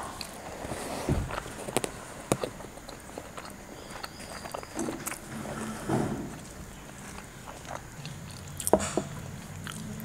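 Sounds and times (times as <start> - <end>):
person chewing: 1.3 - 5.7, 6.3 - 10.0.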